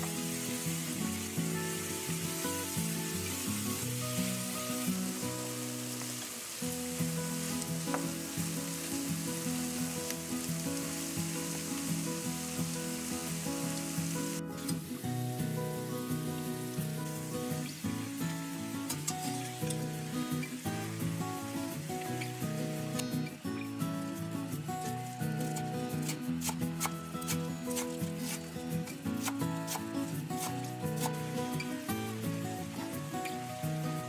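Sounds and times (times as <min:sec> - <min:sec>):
background music with held notes: 0:00.0 - 0:34.0
food sizzling in a pan: 0:00.0 - 0:34.0.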